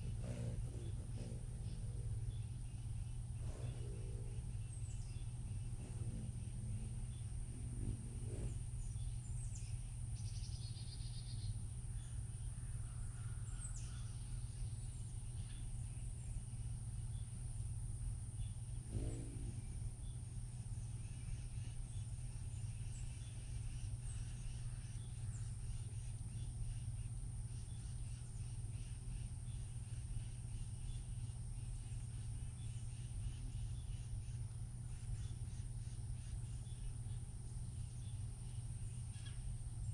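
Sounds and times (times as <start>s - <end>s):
bird chirps: 0.0s - 17.4s, 18.4s - 39.9s
low hum: 0.0s - 39.9s.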